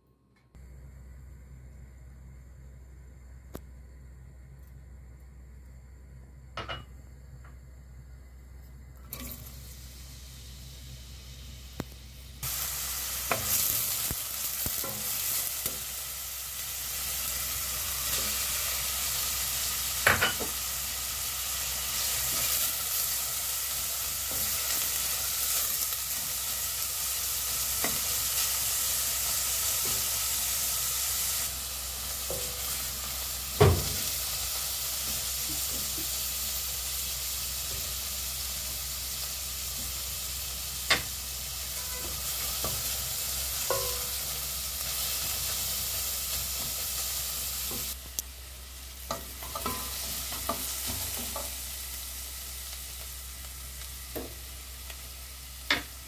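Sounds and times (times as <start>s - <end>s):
food sizzling in hot oil: 9.0s - 56.0s.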